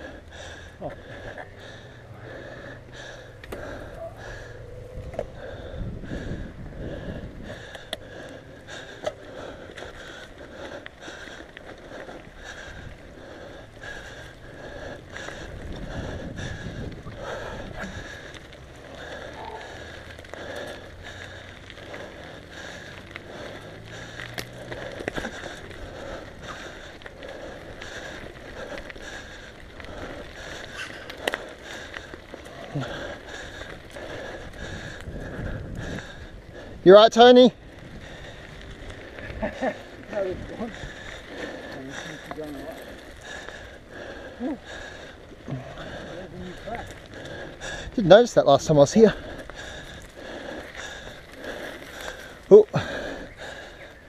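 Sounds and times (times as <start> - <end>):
bike tyres rumbling on dirt: 0.0 - 54.0
rider breathing hard: 0.0 - 54.0
wind: 0.0 - 54.0.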